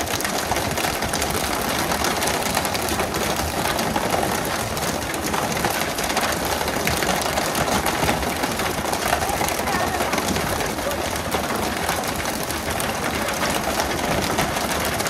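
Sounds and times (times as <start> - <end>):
continuous rushing noise: 0.0 - 15.0.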